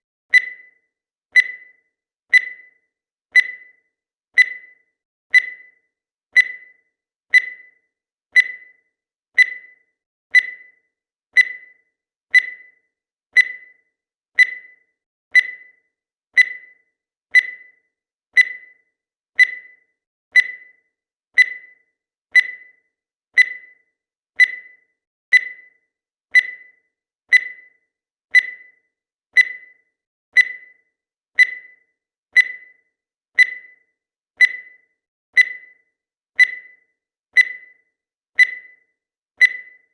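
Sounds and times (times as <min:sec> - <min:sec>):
high electronic timer beeps: 0:00.3 - 0:39.9.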